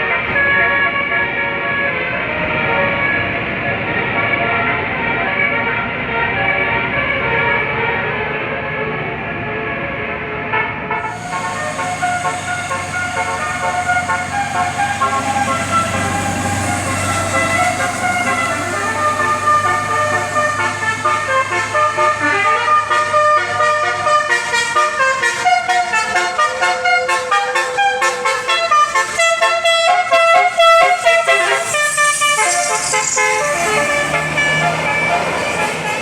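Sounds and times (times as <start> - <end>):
multi-tone bus horn melody: 0.0 - 36.0.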